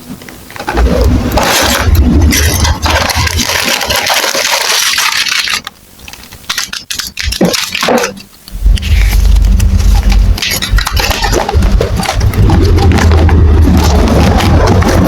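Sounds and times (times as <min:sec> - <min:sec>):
plastic bricks rattling and scraping: 0:00.5 - 0:15.0.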